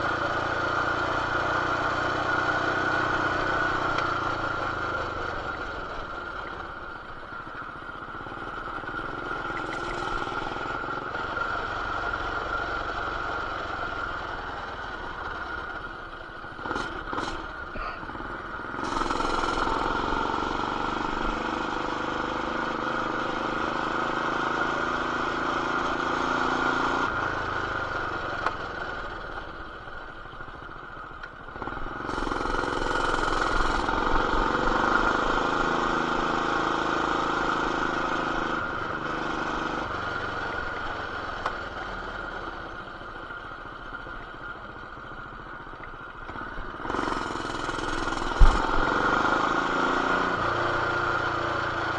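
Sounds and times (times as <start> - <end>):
mini bike engine running: 0.0 - 51.9.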